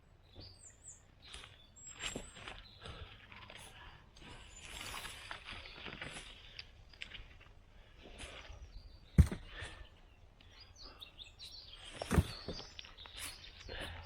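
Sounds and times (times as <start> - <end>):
faint bird chirps: 0.2 - 7.3, 8.1 - 14.0.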